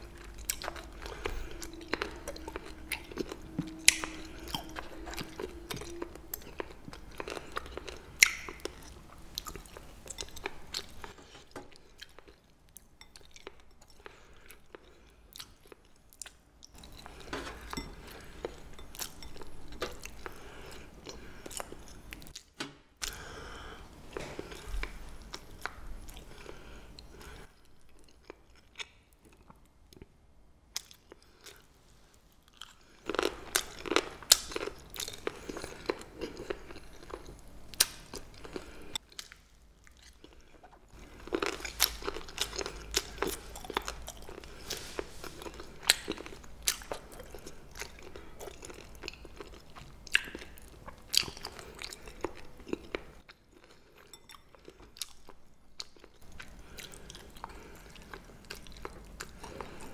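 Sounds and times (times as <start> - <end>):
crunchy chewing: 0.0 - 22.4, 32.5 - 59.9.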